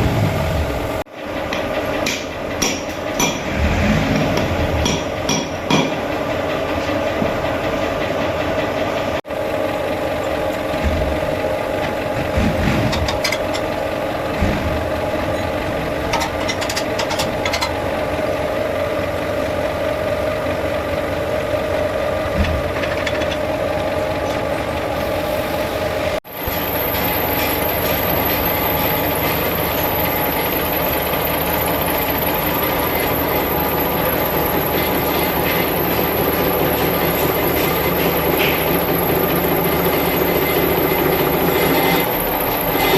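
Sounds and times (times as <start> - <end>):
engine humming: 0.0 - 42.9
rattling machine noise: 0.1 - 25.1, 26.4 - 42.9.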